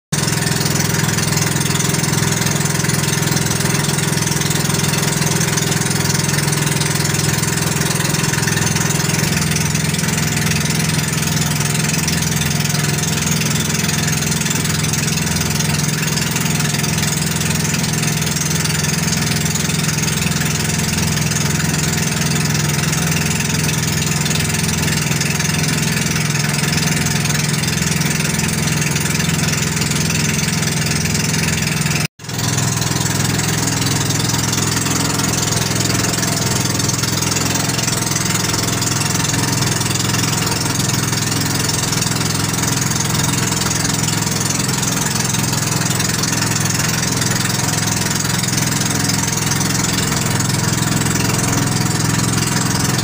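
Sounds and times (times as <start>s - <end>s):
boat engine droning: 0.2s - 53.0s.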